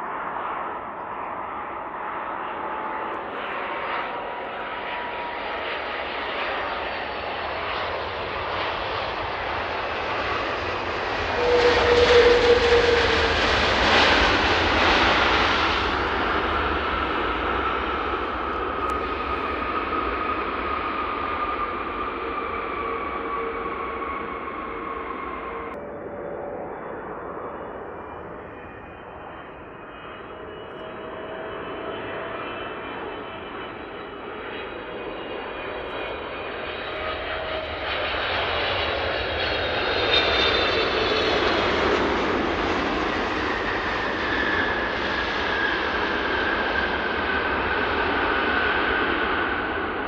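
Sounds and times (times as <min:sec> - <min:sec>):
jet airliner engines whining: 0:00.0 - 0:50.0.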